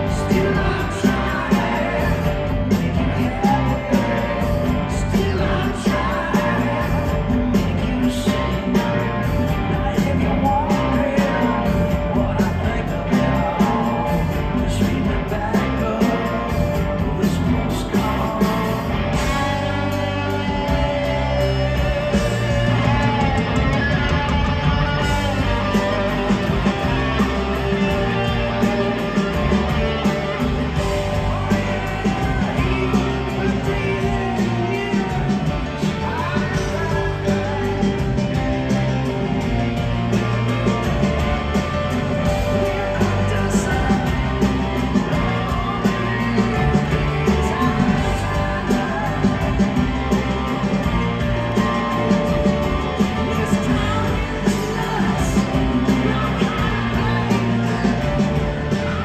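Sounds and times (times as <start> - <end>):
person singing: 0.0 - 59.0
rock band playing live: 0.0 - 59.0.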